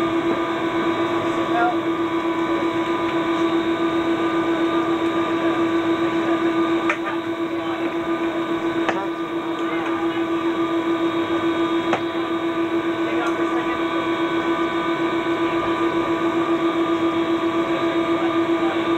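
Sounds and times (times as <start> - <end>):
jet engine drone in cabin: 0.0 - 18.9.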